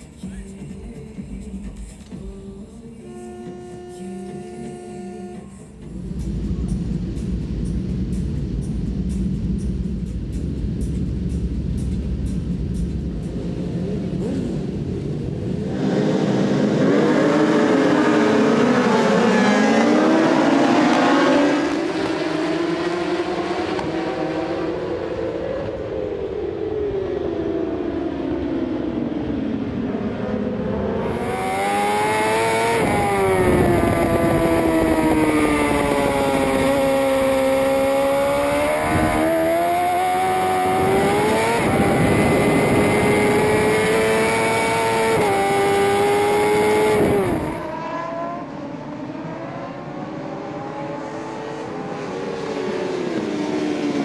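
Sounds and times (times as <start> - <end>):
racing motorcycle engines revving: 2.2 - 9.4, 10.9 - 54.0.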